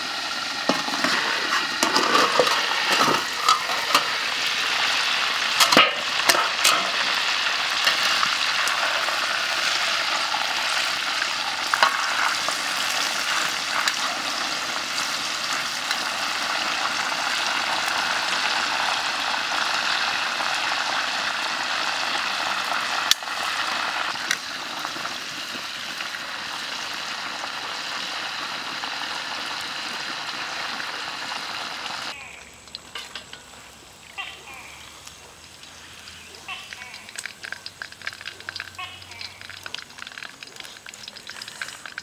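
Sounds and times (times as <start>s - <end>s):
oil sizzling in wok: 0.0s - 42.0s.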